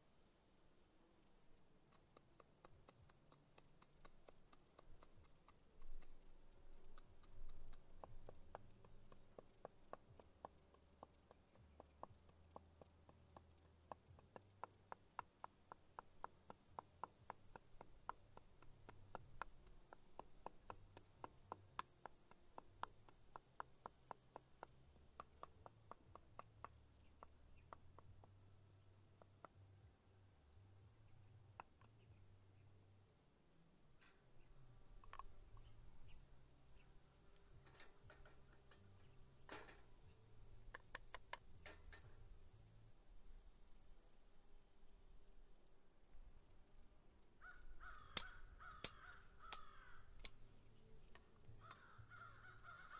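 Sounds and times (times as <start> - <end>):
crickets chirping: 0.0 - 52.9.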